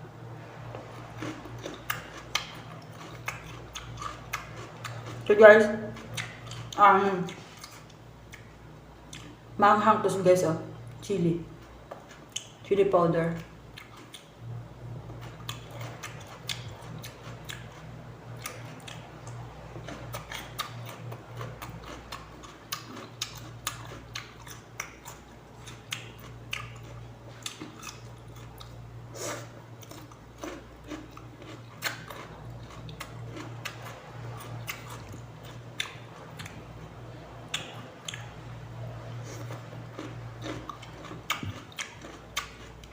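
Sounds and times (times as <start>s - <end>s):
steady low hum: 0.0s - 42.9s
chewing crisp cucumber: 0.8s - 9.4s, 10.9s - 12.6s, 13.3s - 14.4s, 15.1s - 42.9s.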